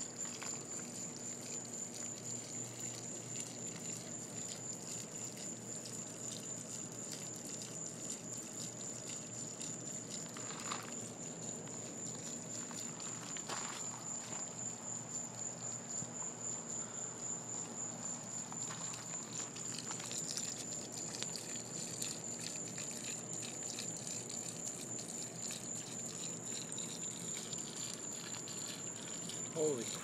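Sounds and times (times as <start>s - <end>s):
dog urinating onto gravel: 0.0s - 30.0s.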